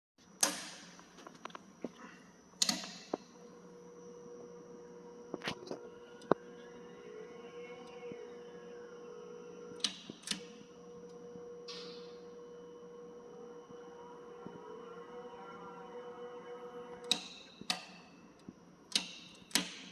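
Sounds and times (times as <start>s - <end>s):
electric drive humming: 0.3s - 19.9s.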